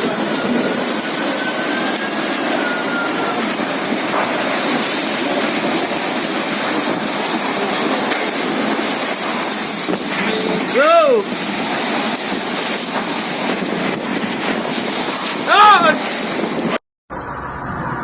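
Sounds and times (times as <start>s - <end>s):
heavy rain: 0.0s - 16.8s
storm wind: 0.0s - 18.0s.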